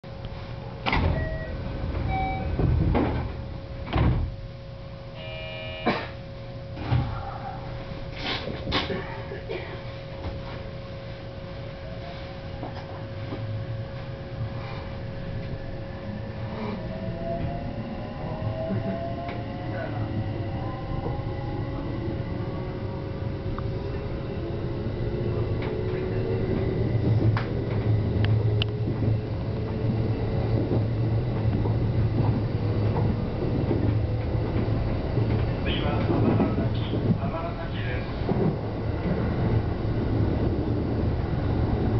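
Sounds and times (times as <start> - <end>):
train electrical hum: 0.0 - 41.9.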